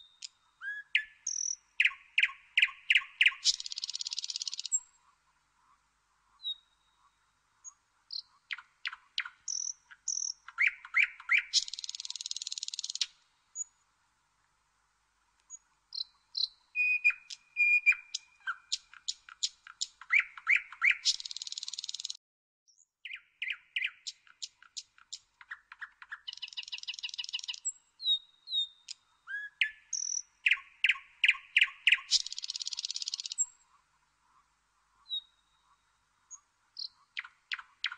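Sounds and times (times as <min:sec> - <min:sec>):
nightingale singing: 0:00.0 - 0:05.0, 0:06.3 - 0:13.8, 0:15.4 - 0:33.7, 0:35.0 - 0:37.9.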